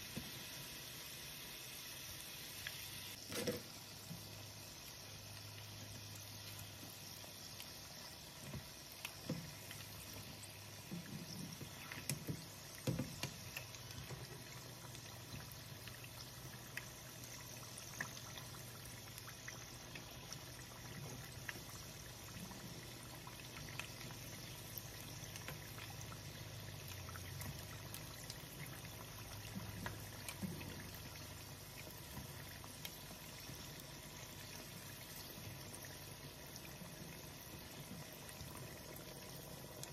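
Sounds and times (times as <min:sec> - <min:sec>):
food deep-frying in oil: 0:00.0 - 0:39.9.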